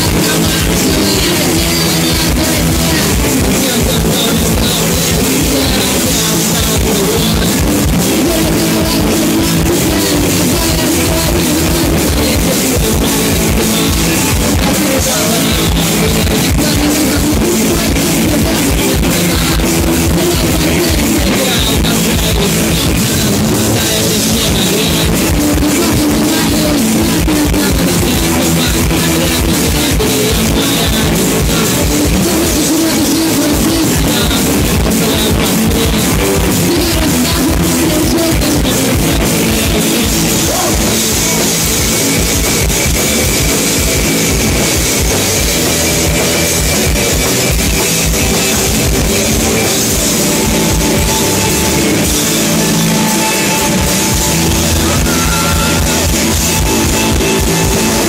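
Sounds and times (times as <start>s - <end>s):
live rock band: 0.0s - 58.0s.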